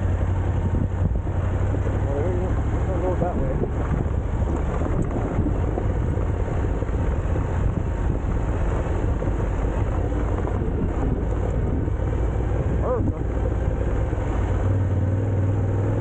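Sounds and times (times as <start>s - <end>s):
motorcycle engine rumble: 0.0s - 16.0s
tyres on gravel road: 0.0s - 16.0s
wind buffeting microphone: 0.0s - 16.0s.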